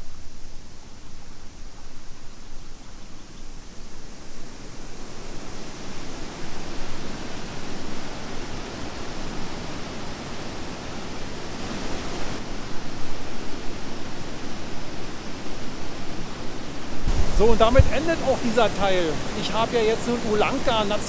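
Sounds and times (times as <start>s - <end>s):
waterfall rushing: 3.6s - 21.0s.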